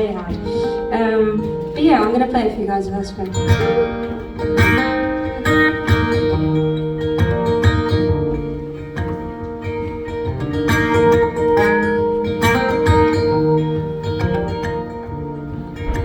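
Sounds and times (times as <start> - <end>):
guitar chords strummed: 0.0 - 16.0.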